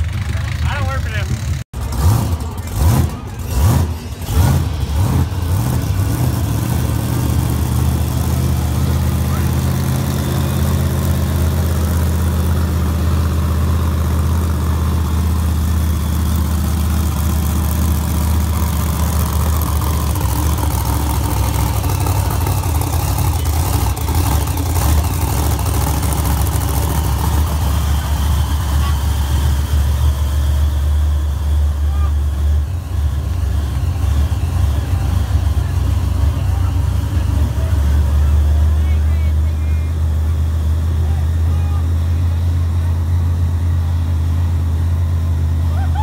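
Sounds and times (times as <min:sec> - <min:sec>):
monster truck engine idling: 0:00.0 - 0:46.0.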